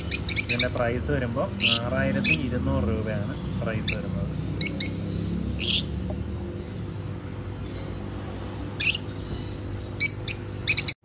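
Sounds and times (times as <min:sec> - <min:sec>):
lovebirds squawking: 0:00.0 - 0:11.0
steady low hum: 0:00.0 - 0:11.0.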